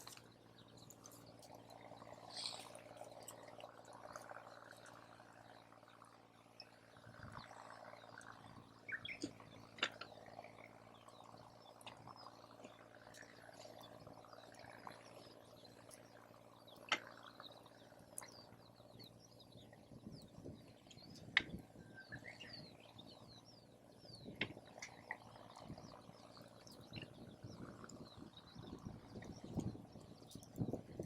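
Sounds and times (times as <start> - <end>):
faint chirping calls: 0.0 - 31.0.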